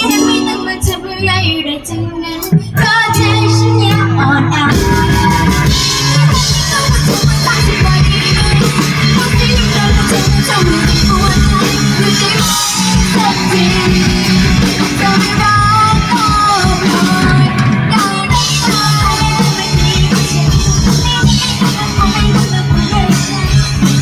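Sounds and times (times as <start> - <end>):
electric guitar: 0.0 - 24.0
live rock band playing: 0.0 - 24.0
woman singing: 0.0 - 24.0.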